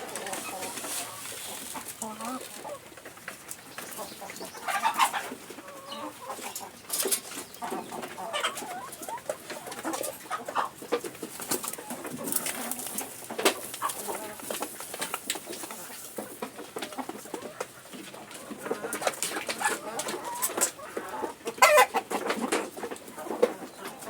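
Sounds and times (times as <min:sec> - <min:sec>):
birds pecking at feed: 0:00.0 - 0:24.0
chickens clucking: 0:00.0 - 0:24.0.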